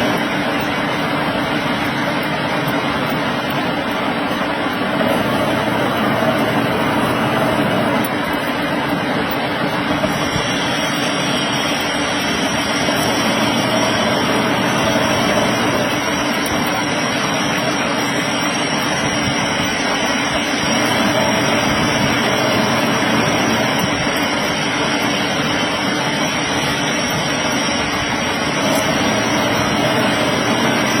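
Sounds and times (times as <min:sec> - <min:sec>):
metal lathe running: 0:00.0 - 0:31.0.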